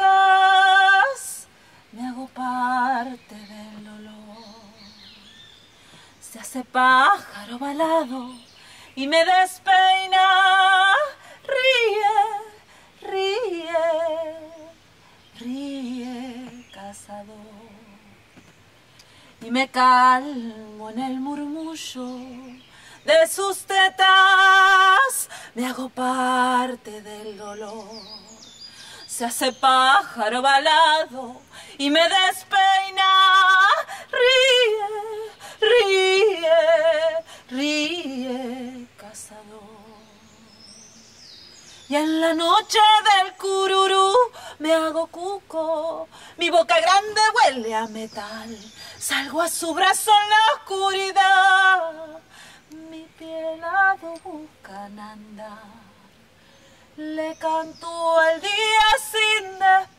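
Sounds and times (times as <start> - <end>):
woman singing wordless phrases: 0.0 - 18.2, 19.0 - 59.9.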